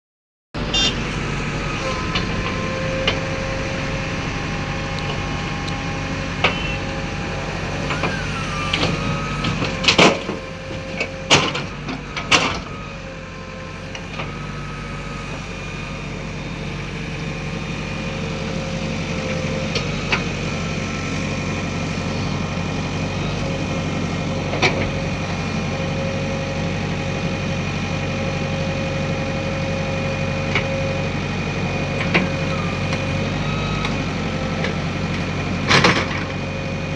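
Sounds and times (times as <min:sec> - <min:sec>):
diesel engine running: 0:00.6 - 0:36.9
steady mechanical whine: 0:00.6 - 0:36.9.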